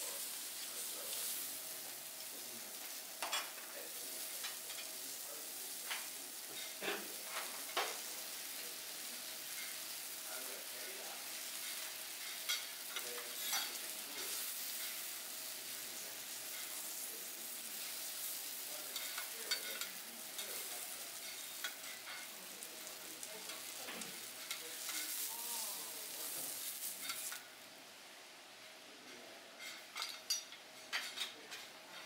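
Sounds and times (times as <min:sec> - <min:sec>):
food sizzling on griddle: 0:00.0 - 0:32.0.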